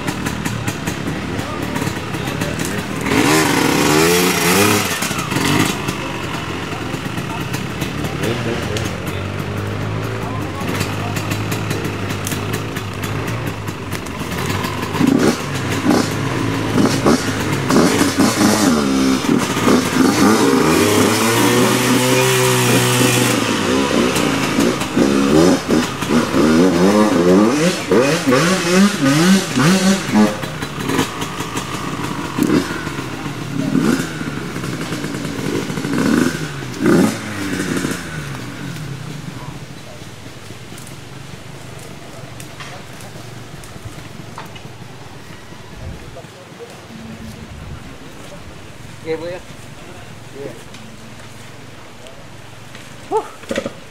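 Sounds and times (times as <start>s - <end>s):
dirt bike engine revving: 0.0s - 45.7s.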